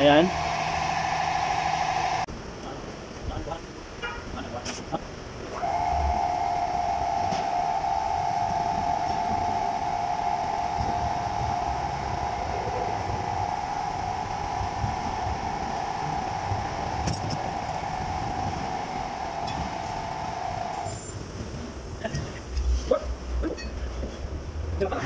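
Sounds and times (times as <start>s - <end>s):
mid-pitched machine drone: 0.0s - 3.6s, 5.4s - 22.7s.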